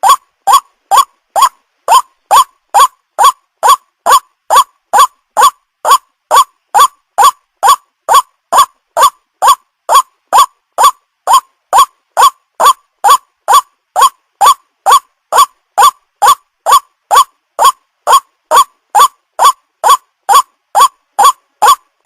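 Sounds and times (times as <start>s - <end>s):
waterhen calling: 0.0s - 21.8s.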